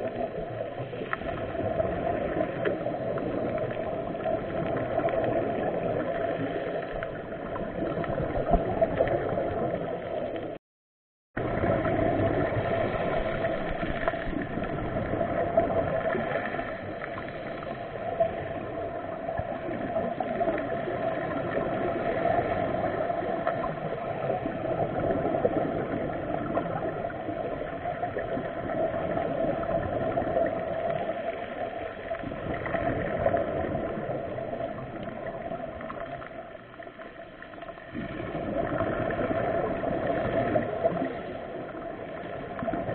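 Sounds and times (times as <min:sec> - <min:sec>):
underwater motor hum: 0:00.0 - 0:10.6, 0:11.4 - 0:42.9
water gurgling: 0:00.0 - 0:10.6, 0:11.4 - 0:42.9.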